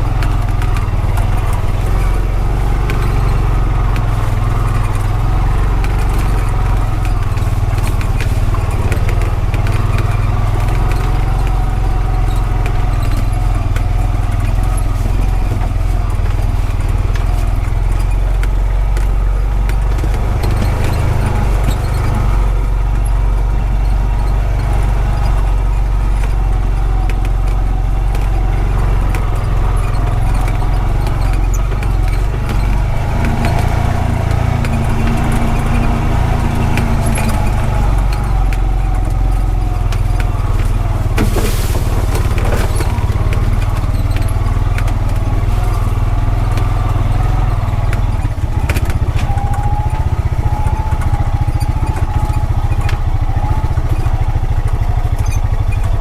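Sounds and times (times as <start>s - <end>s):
knocks and rattles: 0.0s - 56.0s
utility vehicle engine running: 0.0s - 56.0s.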